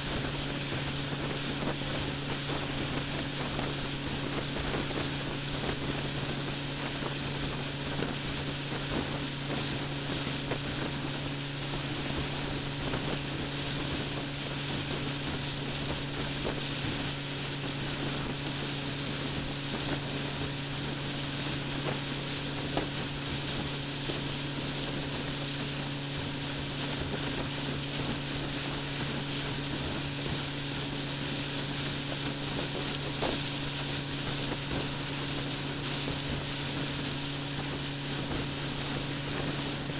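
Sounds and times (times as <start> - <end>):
boat engine humming: 0.0 - 39.9
wind noise on microphone: 0.0 - 39.9.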